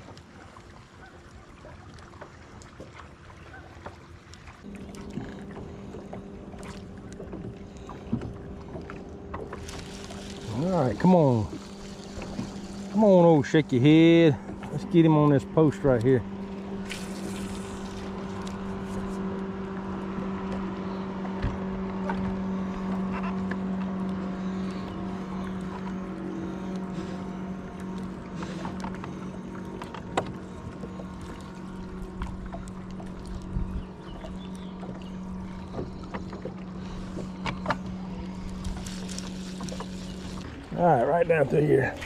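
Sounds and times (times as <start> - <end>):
electric boat motor humming: 0.0 - 42.0.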